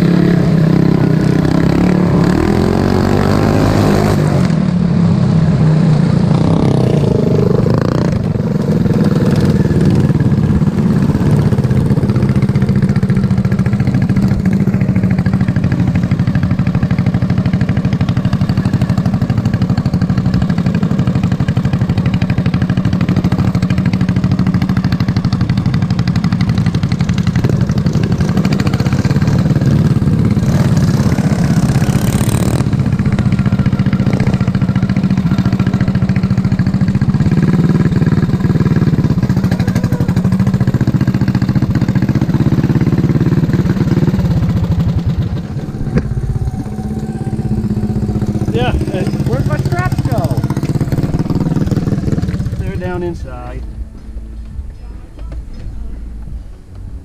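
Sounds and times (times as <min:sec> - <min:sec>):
lawn mower engine running hard: 0:00.0 - 0:54.7.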